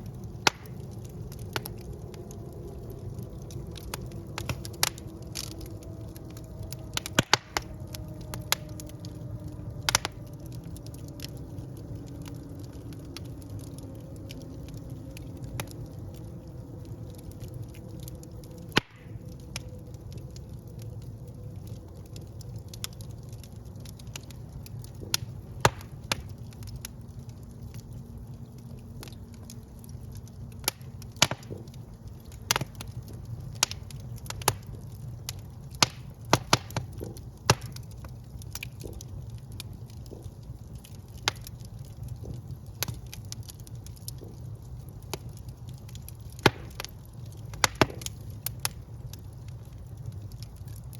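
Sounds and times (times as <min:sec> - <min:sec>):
burning logs crackling and popping: 0:00.0 - 0:50.9
low rumble of flames: 0:00.0 - 0:50.9.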